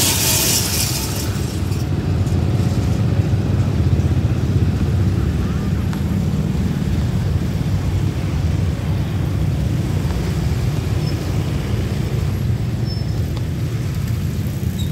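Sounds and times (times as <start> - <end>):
diesel locomotive rumble: 0.0 - 14.8.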